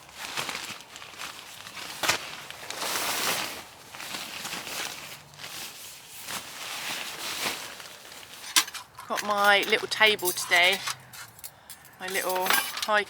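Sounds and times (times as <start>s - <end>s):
rustling of fabric and gear: 0.0s - 13.0s.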